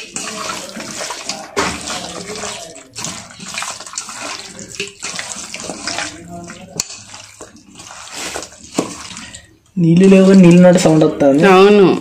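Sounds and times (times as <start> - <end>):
wet sloshing of hand mixing: 0.0 - 11.8.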